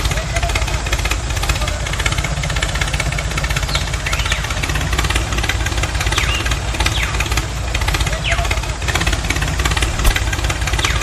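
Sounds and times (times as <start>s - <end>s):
engine running with rapid knock: 0.0s - 11.0s.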